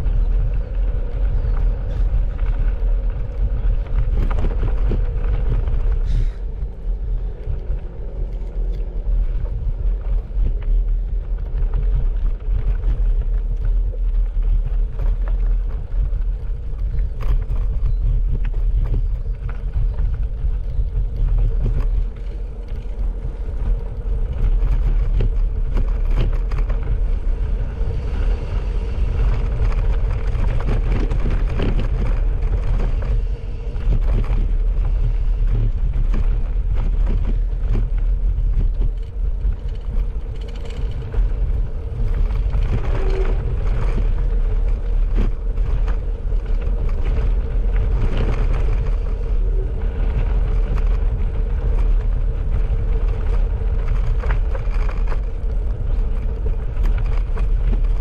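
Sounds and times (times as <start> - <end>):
bicycle tyres on gravel: 0.0 - 58.0
wind buffeting microphone: 0.0 - 58.0.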